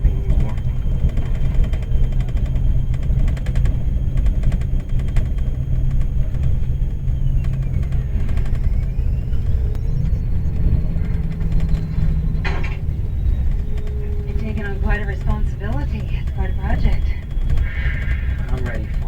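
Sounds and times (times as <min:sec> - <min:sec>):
faint high whine: 0:00.0 - 0:19.0
low vehicle rumble: 0:00.0 - 0:19.0.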